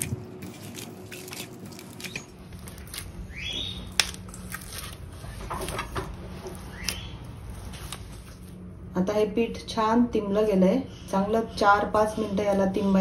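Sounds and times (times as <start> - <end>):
dough squelching while kneaded: 0.0 - 8.7, 10.4 - 13.0.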